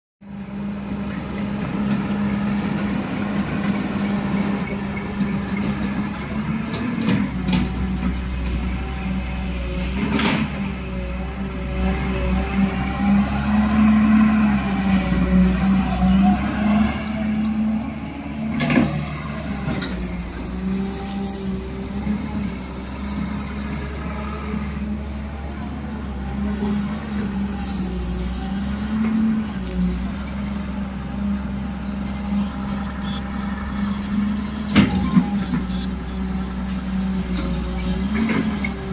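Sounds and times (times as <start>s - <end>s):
excavator diesel engine running: 0.2s - 38.9s.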